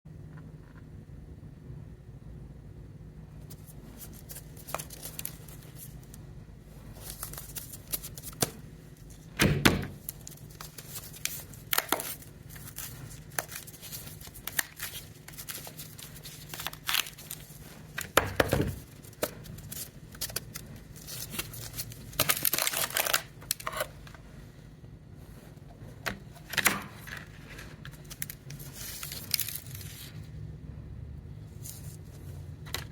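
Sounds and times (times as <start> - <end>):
faint low hum: 0.1 - 32.9.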